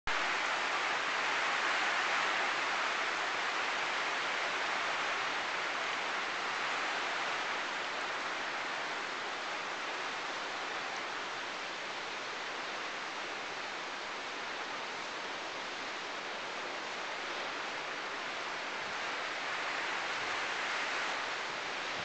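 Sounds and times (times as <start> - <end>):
rain falling steadily: 0.1 - 22.0.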